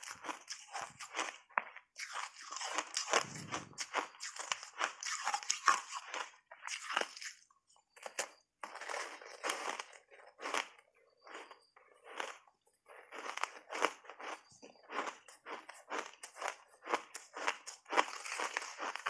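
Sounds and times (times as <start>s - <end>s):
ice crunching while chewed: 0.0s - 19.0s.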